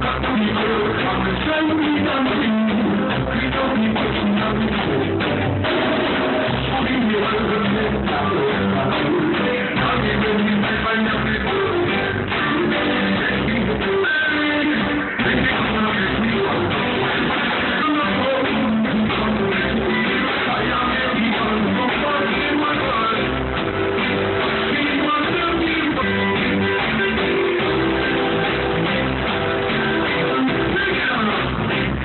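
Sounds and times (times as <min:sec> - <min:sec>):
reggae band playing: 0:00.0 - 0:32.0.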